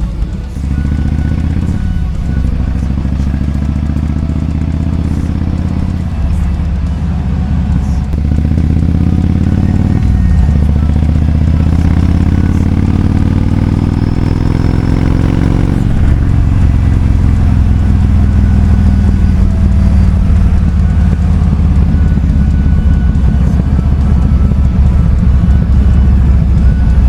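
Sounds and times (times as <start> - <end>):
motorcycle engine running loudly: 0.0 - 27.0.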